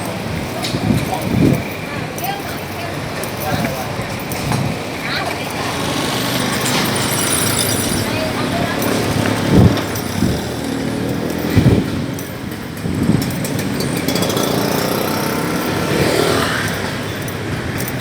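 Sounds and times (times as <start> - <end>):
city street traffic: 0.0 - 18.0
motorcycles passing close by: 0.0 - 18.0.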